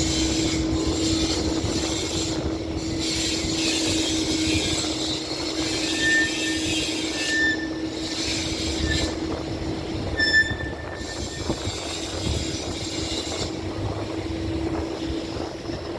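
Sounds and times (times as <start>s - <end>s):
high-pitched squeals: 0.0s - 13.6s.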